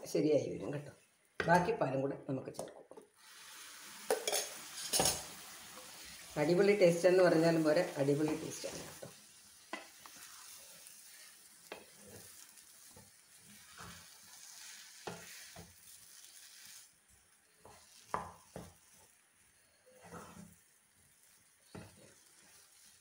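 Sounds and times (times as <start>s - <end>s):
faint hiss: 3.1s - 23.0s
spatula scraping pan: 3.2s - 6.8s, 7.4s - 23.0s.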